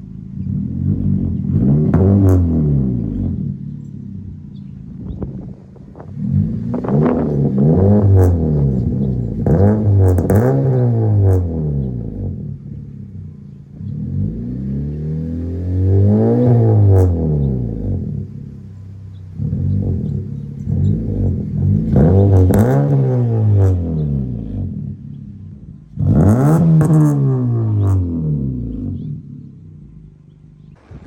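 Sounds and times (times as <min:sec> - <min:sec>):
car engine revving: 0:00.0 - 0:31.0
exhaust pops: 0:00.3 - 0:14.7, 0:15.7 - 0:31.0.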